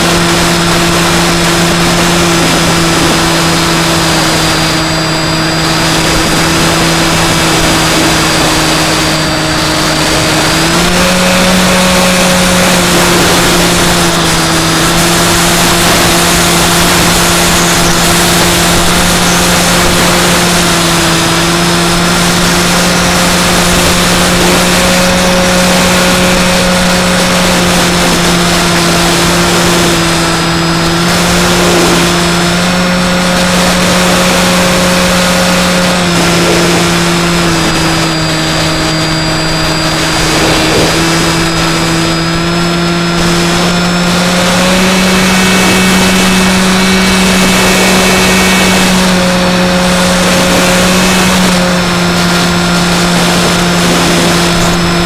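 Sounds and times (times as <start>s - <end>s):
electric motor and propeller humming: 0.0s - 55.0s
wind rush: 0.0s - 55.0s.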